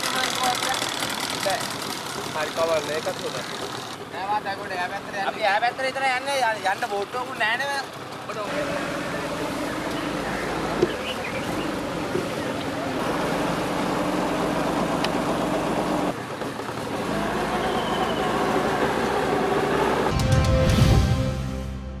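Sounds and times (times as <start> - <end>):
engine running: 0.0 - 5.2, 6.6 - 21.7
outdoor noise: 0.0 - 22.0.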